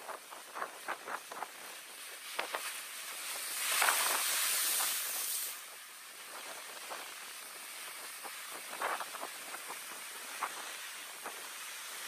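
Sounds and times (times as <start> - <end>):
wave surging with rushing hiss: 0.0 - 12.0.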